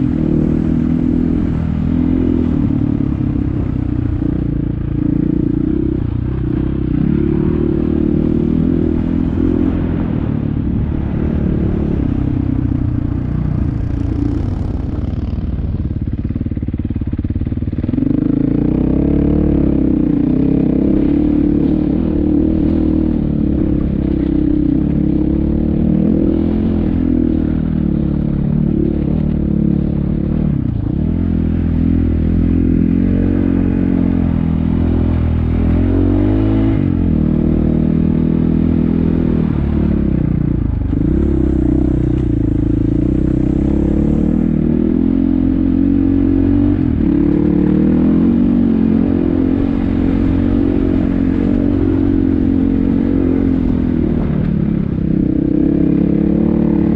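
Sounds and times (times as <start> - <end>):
off-road vehicle engine: 0.0 - 56.9.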